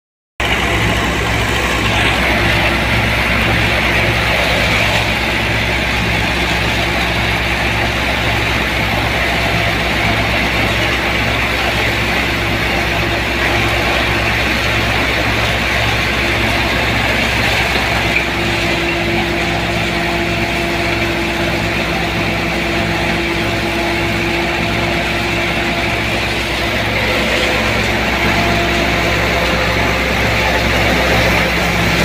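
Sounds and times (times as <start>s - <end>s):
crop thresher droning: 0.4s - 32.0s
tractor diesel engine running: 0.4s - 32.0s.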